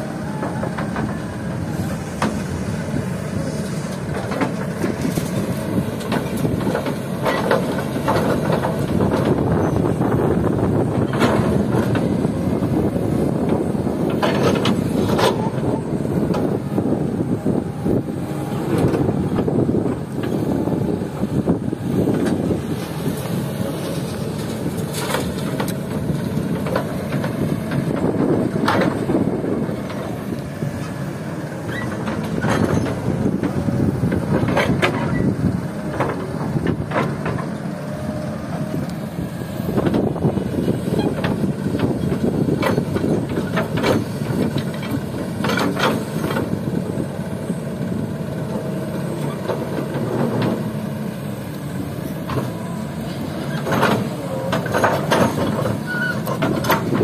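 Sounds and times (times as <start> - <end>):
excavator diesel engine working: 0.0 - 57.0.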